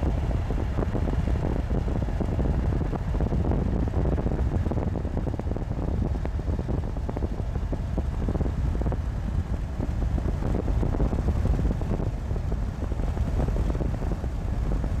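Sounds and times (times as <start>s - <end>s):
truck road noise rumble: 0.0s - 15.0s.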